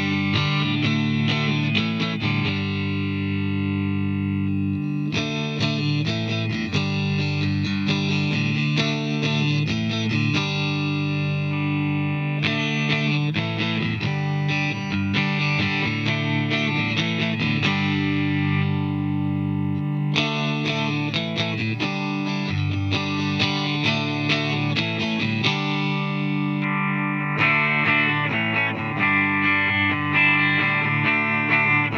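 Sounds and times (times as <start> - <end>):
guitar notes and chords: 0.0 - 31.9.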